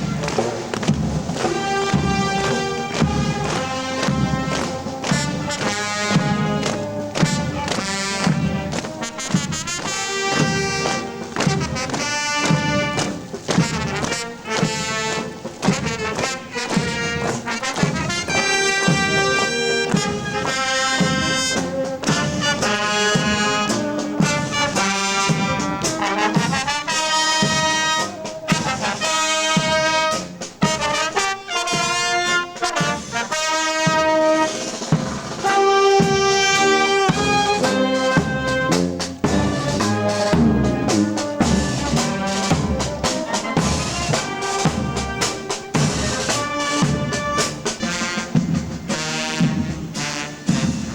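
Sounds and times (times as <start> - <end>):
marching drum beat: 0.0 - 50.9
military band playing a march: 0.0 - 50.9
trumpets and trombones: 0.0 - 50.9.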